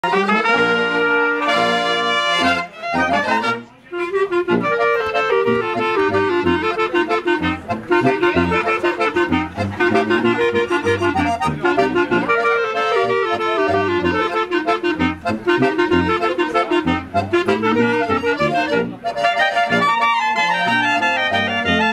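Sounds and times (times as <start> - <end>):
tenor horn: 0.0 - 19.0
accordion: 0.0 - 21.9
clarinet: 0.0 - 21.9
trumpets: 0.0 - 21.9
tuba bass line: 0.0 - 21.9.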